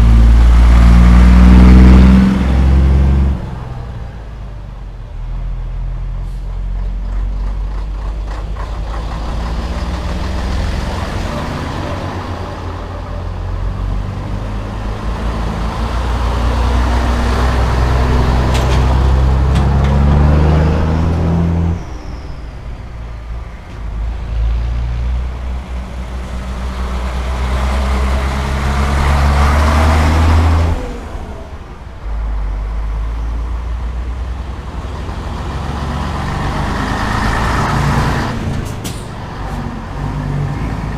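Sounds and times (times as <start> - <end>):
truck diesel engine under load: 0.0 - 40.9.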